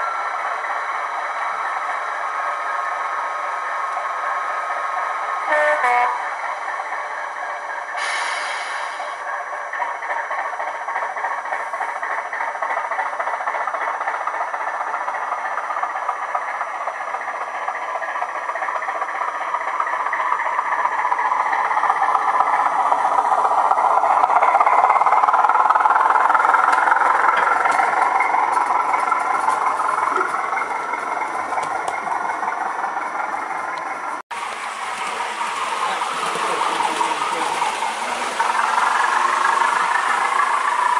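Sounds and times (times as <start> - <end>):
model train diesel engine: 0.0 - 40.9
wheels rattling over rail joints: 0.0 - 40.9.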